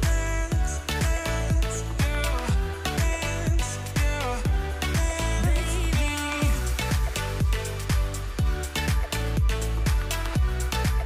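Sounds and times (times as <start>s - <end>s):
deep kick drum beat: 0.0s - 11.0s.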